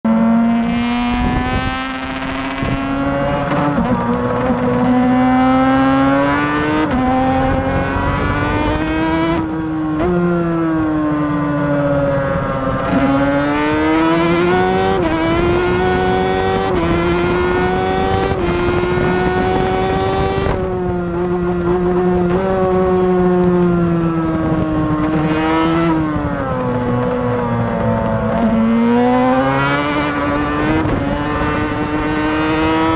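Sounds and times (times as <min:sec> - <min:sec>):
race engine revving: 0:00.1 - 0:11.2, 0:11.9 - 0:32.9.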